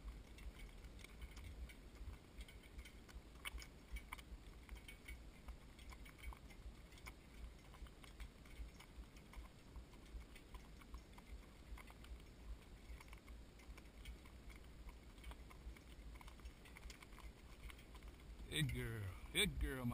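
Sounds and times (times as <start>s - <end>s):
horse hoofbeats clopping: 0.0s - 19.9s.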